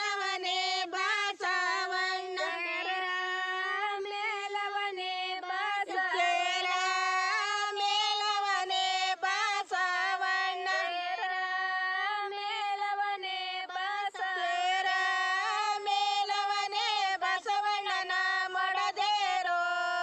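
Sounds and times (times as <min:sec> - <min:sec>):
women singing together: 0:00.0 - 0:20.0.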